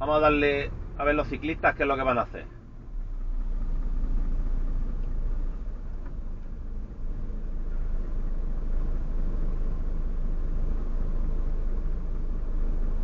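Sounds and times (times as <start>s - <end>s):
truck diesel engine rumbling: 0.0s - 13.0s.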